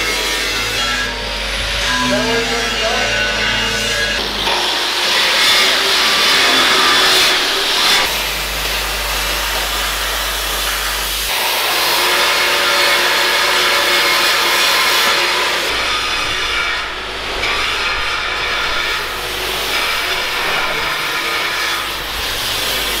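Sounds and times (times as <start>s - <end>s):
angle grinder on steel: 0.0s - 23.0s.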